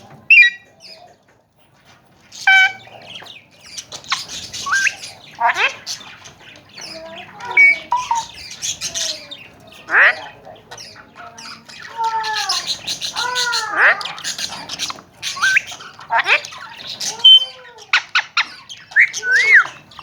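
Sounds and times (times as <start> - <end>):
parakeets squawking: 0.0 - 1.0, 2.1 - 20.0.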